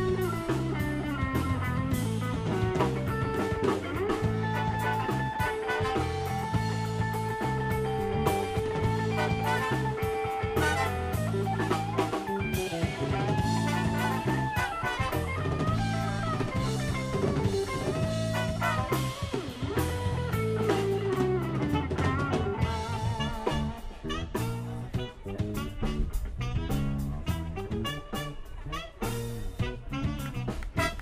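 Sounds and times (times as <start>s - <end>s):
drum kit: 0.0s - 31.0s
electric bass: 0.0s - 31.0s
electric guitar: 0.0s - 31.0s
trumpet: 0.0s - 31.0s.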